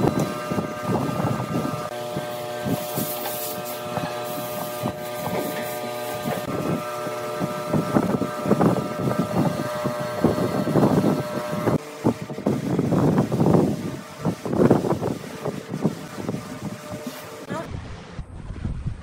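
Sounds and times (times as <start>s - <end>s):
steady mechanical drone: 0.0s - 18.9s.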